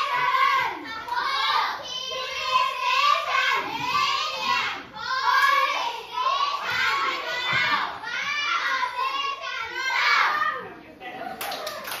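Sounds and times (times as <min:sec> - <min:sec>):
children chanting in chorus: 0:00.0 - 0:10.5.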